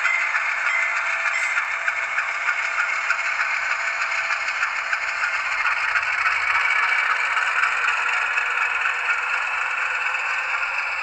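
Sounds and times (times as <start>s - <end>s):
model train wheel running noise: 0.0s - 11.0s.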